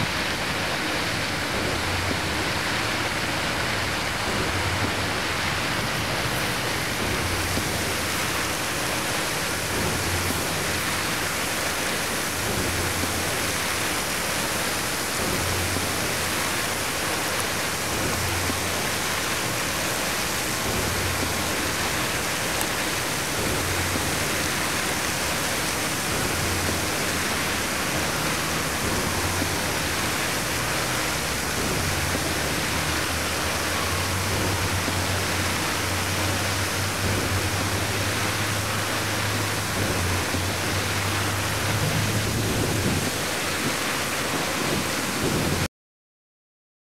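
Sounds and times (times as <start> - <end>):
fountain water splashing: 0.0 - 45.7.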